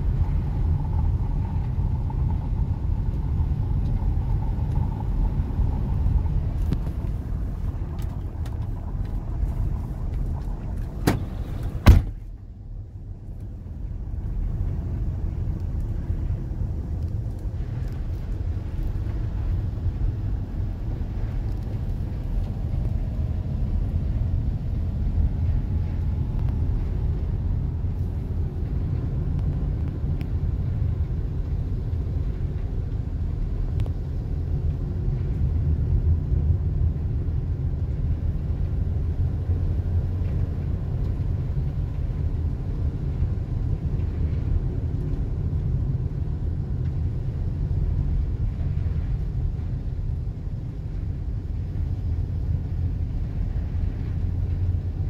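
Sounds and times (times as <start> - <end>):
van engine and tyres rumbling: 0.0 - 55.0.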